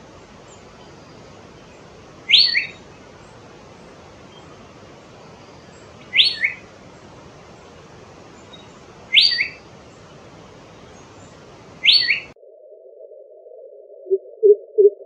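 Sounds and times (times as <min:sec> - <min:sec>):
background hiss: 0:00.0 - 0:12.4.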